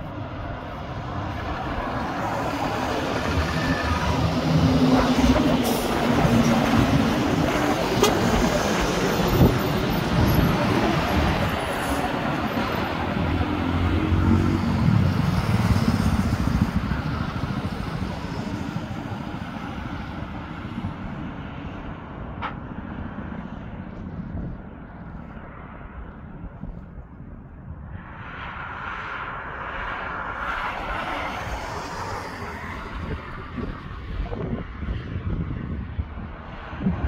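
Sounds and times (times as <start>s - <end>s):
heavy trucks and buses passing: 0.0s - 37.0s.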